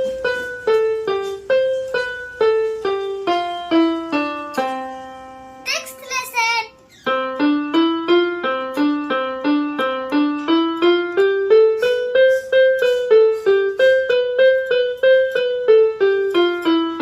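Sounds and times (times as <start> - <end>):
electronic keyboard single notes: 0.0 - 17.0.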